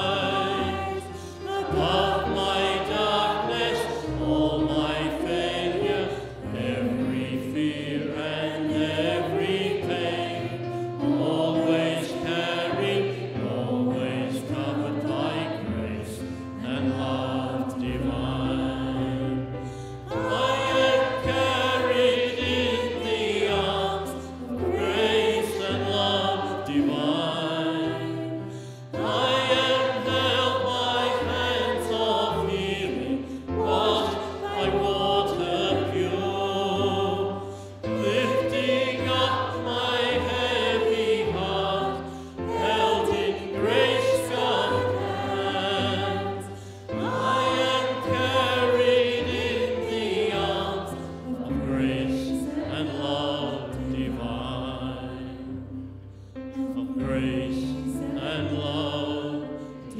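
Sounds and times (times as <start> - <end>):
voices singing worship song: 0.0 - 59.9.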